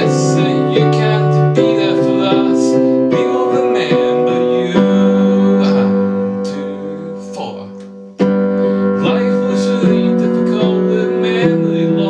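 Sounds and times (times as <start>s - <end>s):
man singing: 0.0s - 12.0s
piano chords on keyboard: 0.0s - 12.0s.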